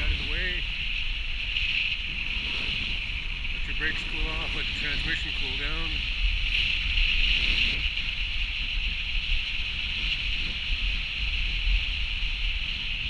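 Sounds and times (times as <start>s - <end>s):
car engine and road rumble: 0.0s - 13.0s
wind and tyre hiss: 0.0s - 13.0s.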